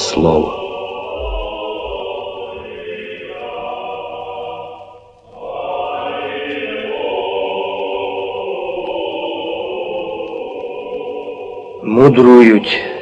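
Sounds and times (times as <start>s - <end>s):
choral music: 0.0s - 13.0s.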